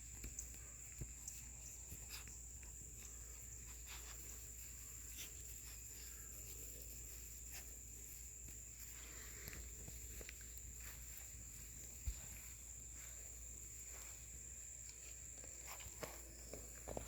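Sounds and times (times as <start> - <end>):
puppies rustling in grass: 0.0 - 17.0.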